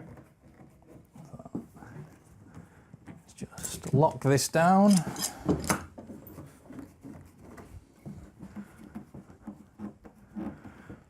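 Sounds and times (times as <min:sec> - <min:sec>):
wood and metal clicks and rubbing: 0:00.0 - 0:11.0.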